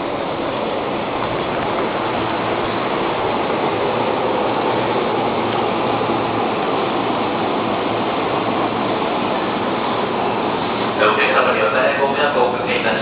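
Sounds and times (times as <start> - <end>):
stationary train rushing noise: 0.0 - 13.0.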